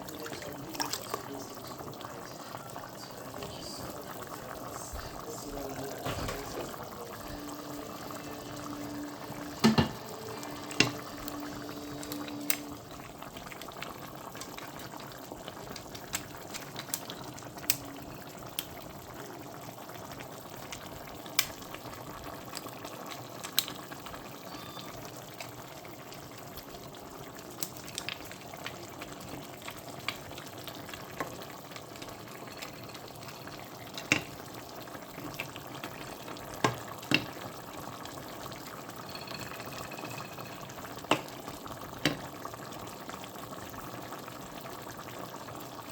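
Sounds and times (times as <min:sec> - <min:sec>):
food bubbling in pot: 0:00.0 - 0:45.9.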